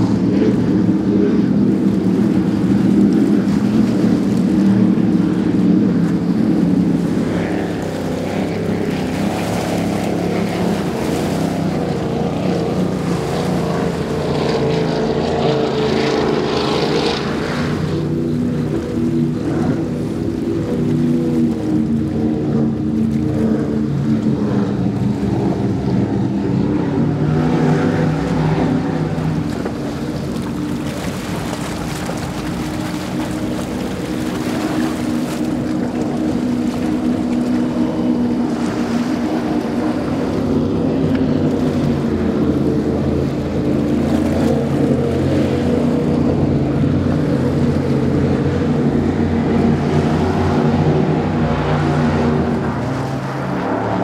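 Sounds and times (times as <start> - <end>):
powerboat engines droning: 0.0 - 54.0
water rushing from hulls: 0.0 - 54.0.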